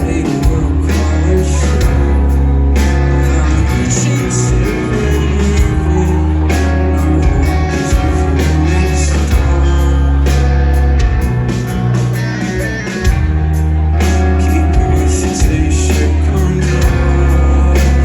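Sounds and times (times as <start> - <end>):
distorted guitars: 0.0 - 18.0
live rock band playing: 0.0 - 18.0.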